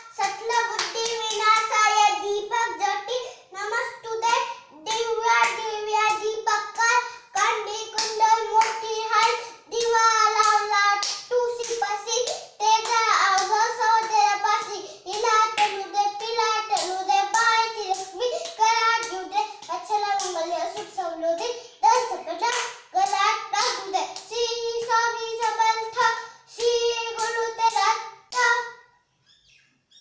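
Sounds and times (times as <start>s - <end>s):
hands clapping: 0.0s - 2.0s, 4.9s - 28.7s
child singing: 0.0s - 28.9s.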